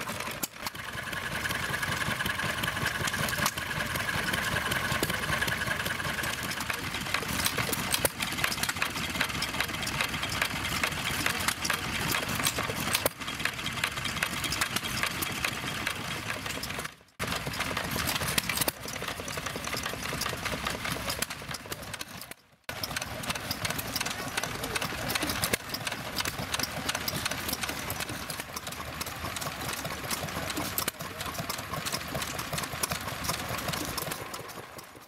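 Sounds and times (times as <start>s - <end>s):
mechanical clicks and knocks: 0.0s - 35.0s
stationary engines running: 0.0s - 35.0s.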